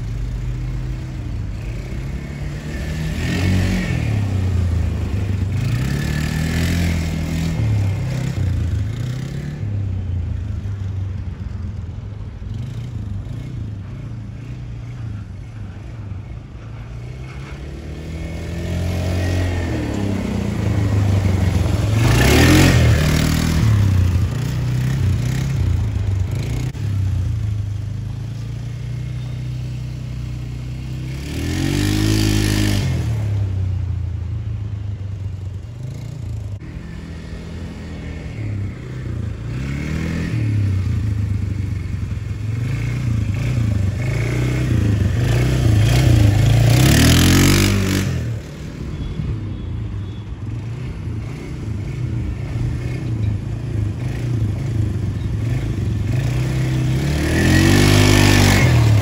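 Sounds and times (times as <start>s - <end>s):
quad bike engine revving: 0.0s - 9.8s, 17.0s - 33.6s, 35.8s - 49.0s, 50.5s - 59.0s.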